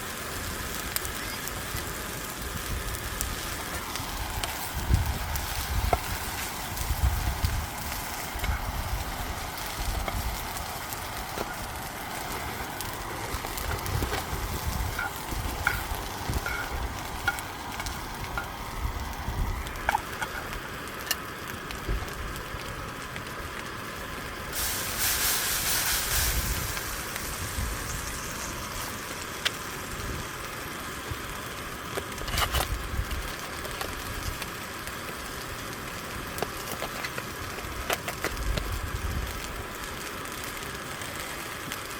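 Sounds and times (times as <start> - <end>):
steak sizzling in a frying pan: 0.0 - 22.4, 24.4 - 41.9.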